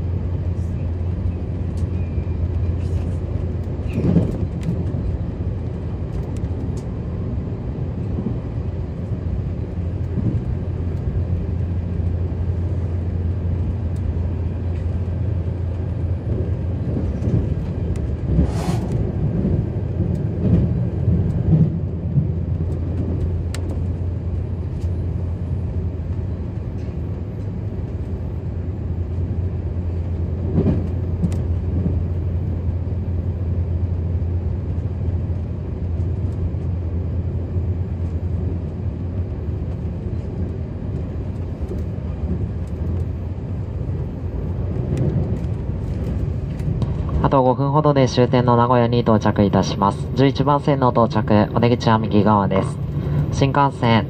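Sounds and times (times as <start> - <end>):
train cabin low rumble: 0.0 - 54.0.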